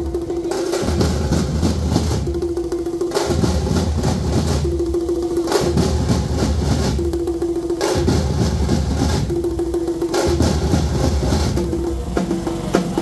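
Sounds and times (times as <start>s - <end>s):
bass drum: 0.0s - 13.0s
frame drums struck with sticks: 0.0s - 13.0s.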